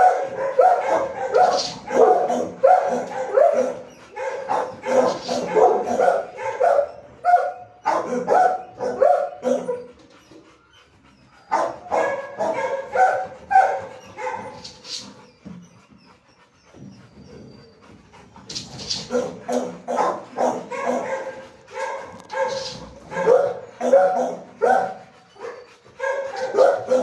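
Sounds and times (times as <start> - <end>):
dogs barking: 0.0 - 10.4, 11.2 - 15.3, 16.6 - 27.0.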